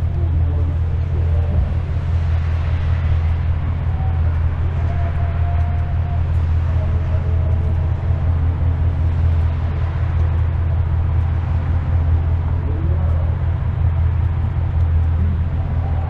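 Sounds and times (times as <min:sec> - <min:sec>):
car exhaust drone: 0:00.0 - 0:16.0
road and tyre noise: 0:00.0 - 0:16.0.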